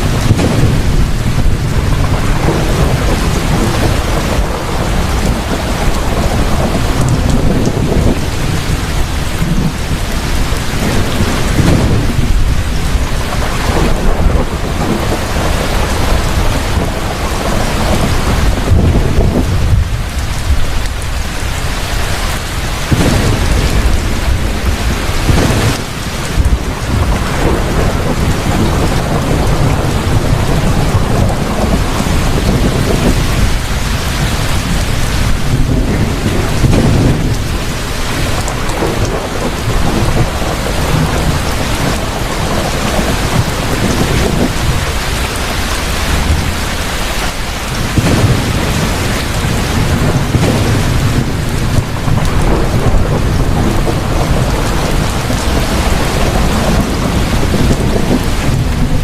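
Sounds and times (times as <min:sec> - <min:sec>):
heavy rain pouring: 0:00.0 - 0:59.0
thunder rumbling: 0:00.0 - 0:59.0.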